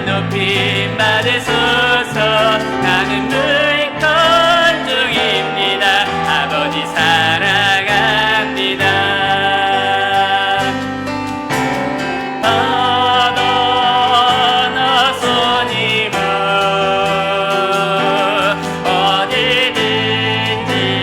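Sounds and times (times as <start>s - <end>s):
bass: 0.0s - 21.0s
person singing with vibrato: 0.0s - 21.0s
piano: 0.0s - 21.0s.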